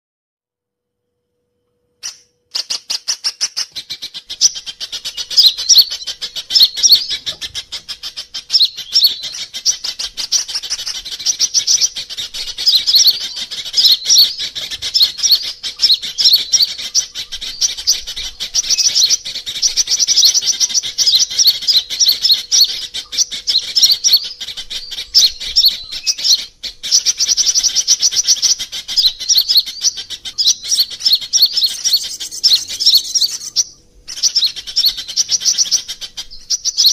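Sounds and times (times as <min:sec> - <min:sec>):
high-pitched bird chirps and trills: 0:02.0 - 0:36.9.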